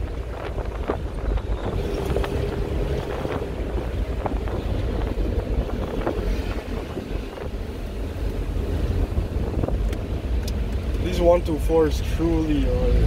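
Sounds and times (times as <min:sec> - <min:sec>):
wind buffeting microphone: 0:00.0 - 0:11.4
engine and road rumble: 0:00.0 - 0:13.0.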